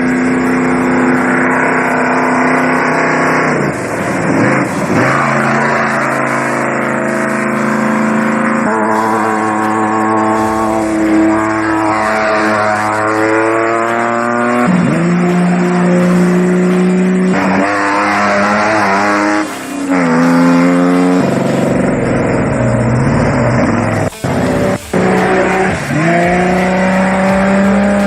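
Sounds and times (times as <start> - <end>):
race vehicle engines revving: 0.0 - 28.0.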